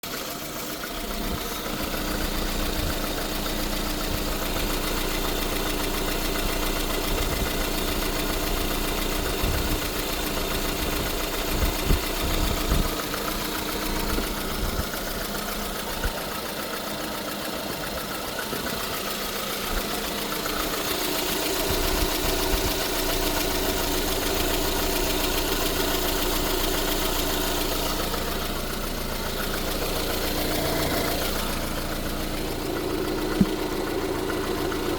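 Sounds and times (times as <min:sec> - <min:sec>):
car engine idling: 0:00.0 - 0:34.9
engine knocks: 0:00.0 - 0:34.9.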